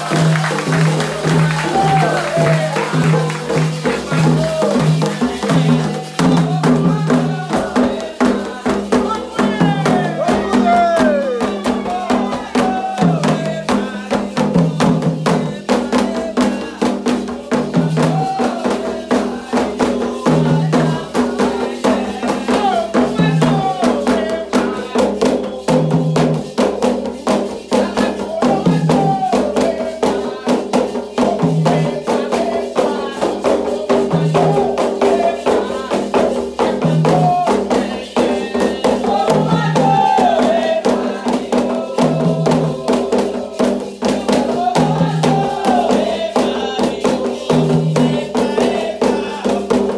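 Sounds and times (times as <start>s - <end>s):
group singing: 0.0s - 49.9s
hand drums and shakers: 0.0s - 49.9s.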